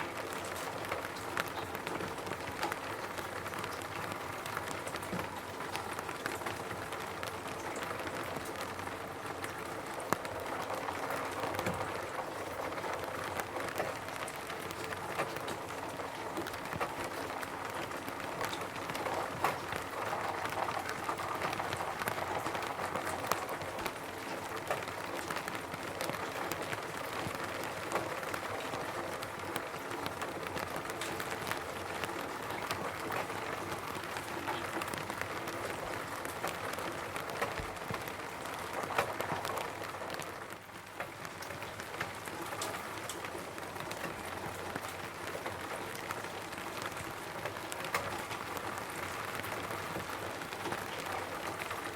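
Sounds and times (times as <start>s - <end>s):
rain on a roof: 0.0s - 51.9s.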